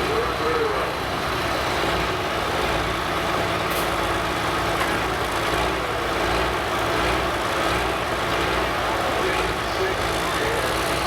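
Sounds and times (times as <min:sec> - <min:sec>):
tractor engine running loud: 0:00.0 - 0:11.0.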